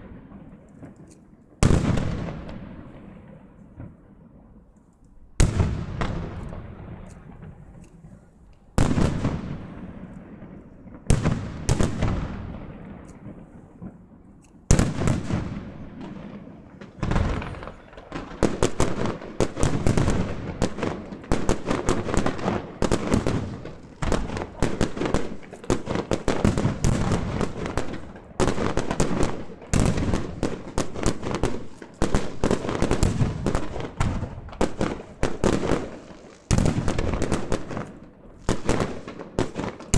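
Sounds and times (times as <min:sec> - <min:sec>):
fireworks barrage crackling: 0:00.0 - 0:39.9.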